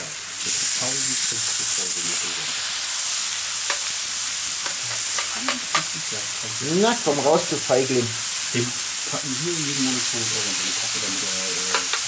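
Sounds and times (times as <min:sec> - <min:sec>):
beef sizzling on hot plate: 0:00.0 - 0:12.0.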